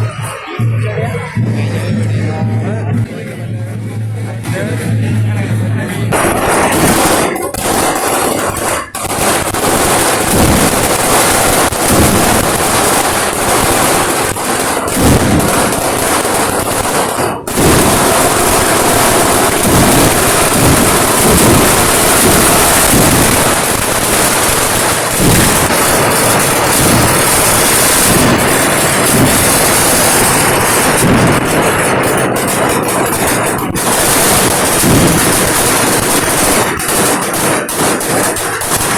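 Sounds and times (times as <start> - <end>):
firecracker bangs: 0.0 - 38.9.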